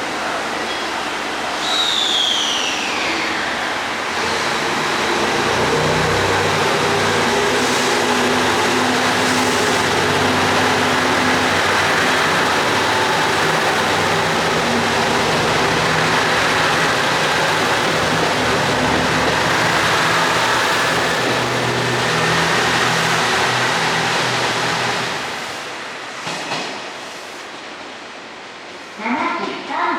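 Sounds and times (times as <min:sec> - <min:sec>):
diesel train engines accelerating: 0:00.0 - 0:28.7.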